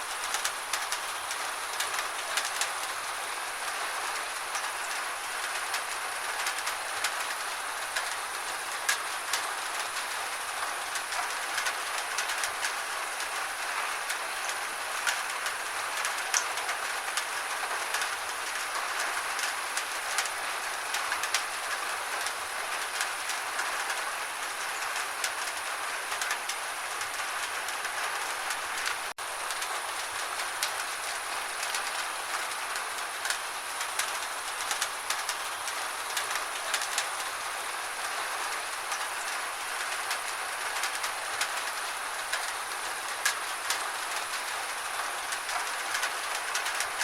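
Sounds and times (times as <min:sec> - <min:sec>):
gentle rain hissing: 0:00.0 - 0:47.0
fine raindrop ticks: 0:00.2 - 0:03.0, 0:03.7 - 0:24.0, 0:24.6 - 0:47.0.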